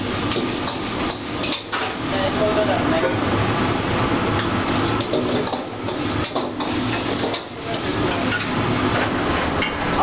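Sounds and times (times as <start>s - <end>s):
food frying hiss: 0.0s - 9.4s.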